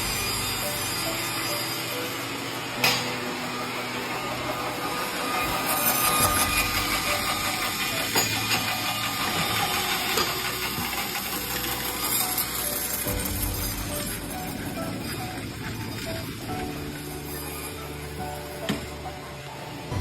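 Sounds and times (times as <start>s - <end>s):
woodworking machine cutting wood: 0.0s - 20.0s.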